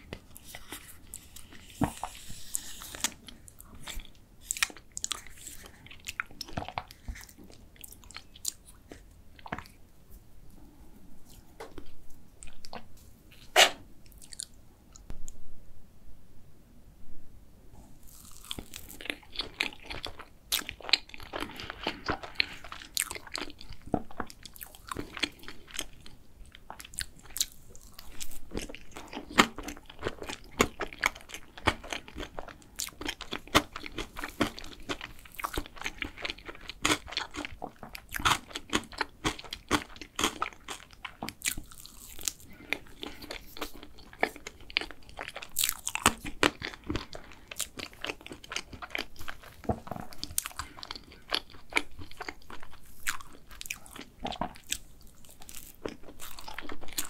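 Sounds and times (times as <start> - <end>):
person chewing: 0.0 - 9.9, 10.5 - 15.1, 18.0 - 57.0.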